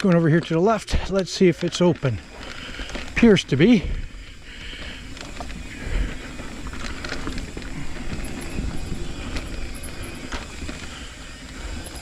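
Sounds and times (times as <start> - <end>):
wheels knocking on roots: 0.0 - 12.0
tyre and wind rumble: 0.9 - 12.0
bike frame rattling: 1.5 - 12.0.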